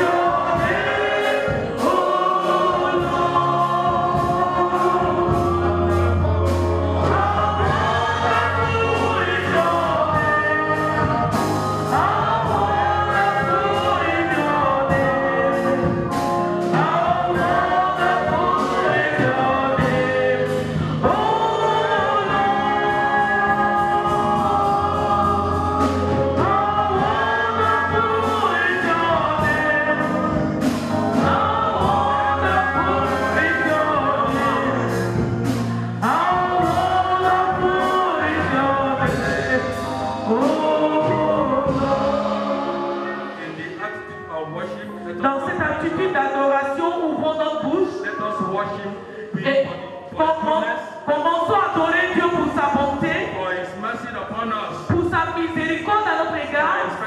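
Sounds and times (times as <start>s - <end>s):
band with steady beat: 0.0s - 46.0s
choir singing: 0.0s - 46.0s.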